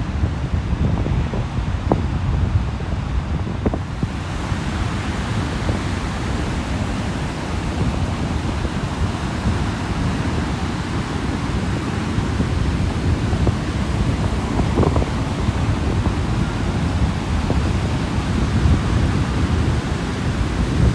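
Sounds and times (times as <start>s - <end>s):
surf breaking on a beach: 0.0s - 20.9s
wind buffeting the microphone: 0.0s - 20.9s.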